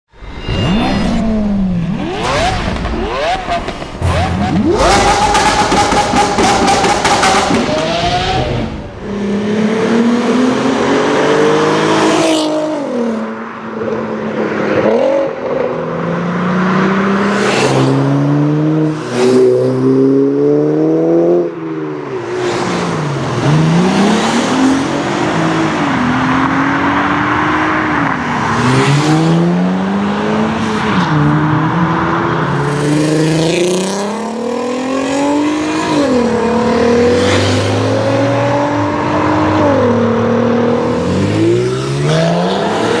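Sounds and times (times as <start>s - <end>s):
car engines revving hard: 0.5s - 43.0s.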